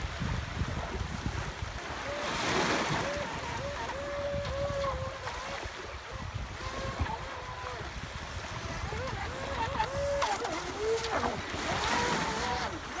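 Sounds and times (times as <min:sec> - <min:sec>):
small waves washing ashore: 0:00.0 - 0:13.0
wind buffeting microphone: 0:00.0 - 0:13.0.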